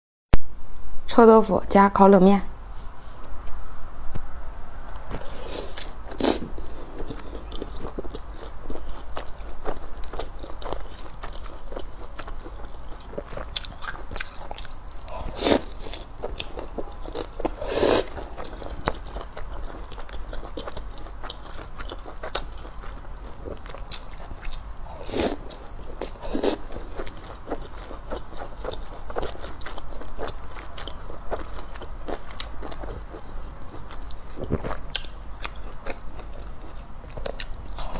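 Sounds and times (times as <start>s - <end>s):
chewing: 5.0s - 37.9s.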